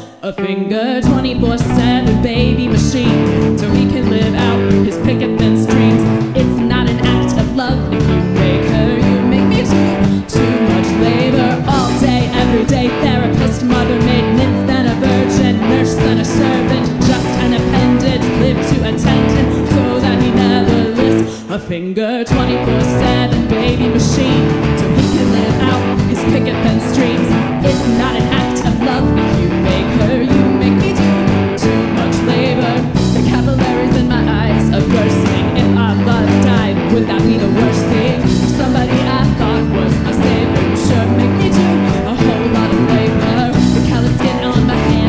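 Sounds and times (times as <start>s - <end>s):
woman singing: 0.0s - 45.0s
live rock band playing: 1.0s - 21.5s, 22.3s - 45.0s.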